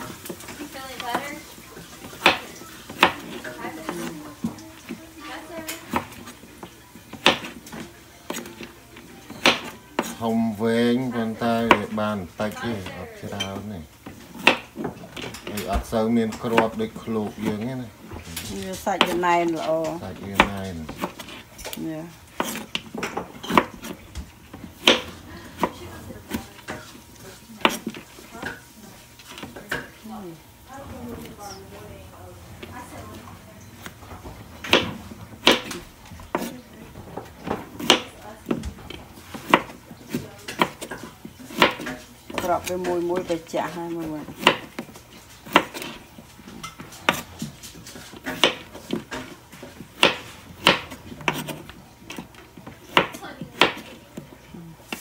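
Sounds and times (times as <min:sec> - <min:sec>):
knife chopping on cutting board: 0:00.0 - 0:10.4, 0:11.2 - 0:29.9, 0:33.6 - 0:55.0.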